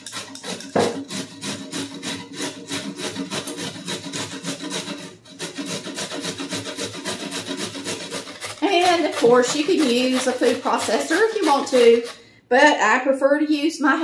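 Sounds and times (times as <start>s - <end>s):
carrots scraping on grater: 0.0s - 12.3s.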